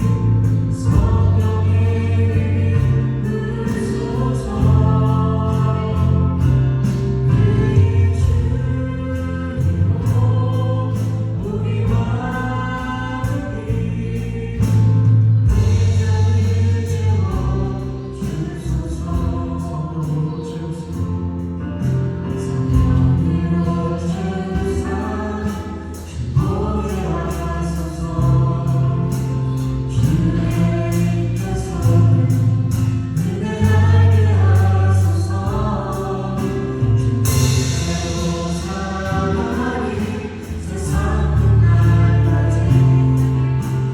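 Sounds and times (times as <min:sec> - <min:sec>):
steady drum beat: 0:00.0 - 0:20.2, 0:22.4 - 0:43.9
acoustic guitar: 0:00.0 - 0:43.9
keyboards: 0:00.0 - 0:43.9
voices singing together: 0:00.0 - 0:43.9.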